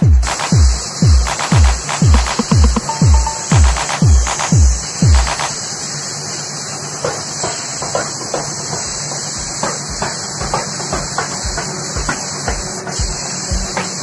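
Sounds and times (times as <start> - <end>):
spray gun air hiss: 0.0 - 14.0.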